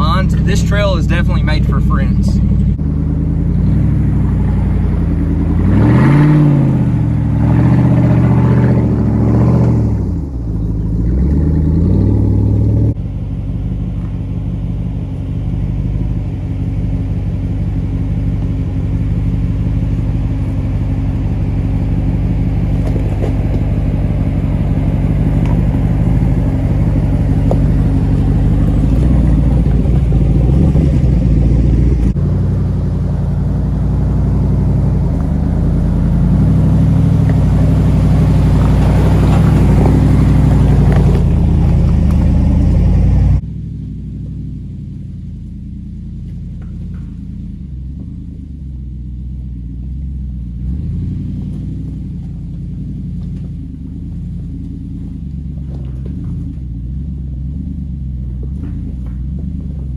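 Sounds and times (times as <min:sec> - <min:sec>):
engine rumbling at low revs: 0:00.0 - 0:59.9.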